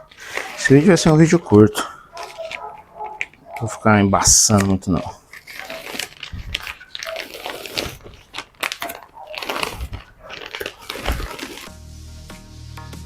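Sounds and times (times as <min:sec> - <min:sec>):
materials rustling and crinkling: 0:00.0 - 0:11.8.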